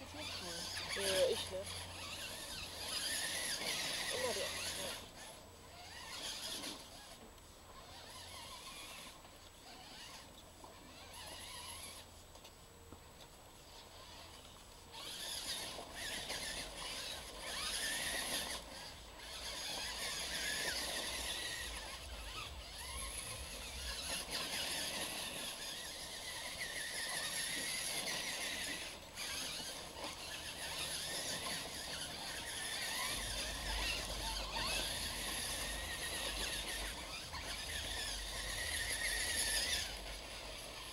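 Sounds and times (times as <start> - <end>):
rc truck motors whining: 0.0 - 40.9.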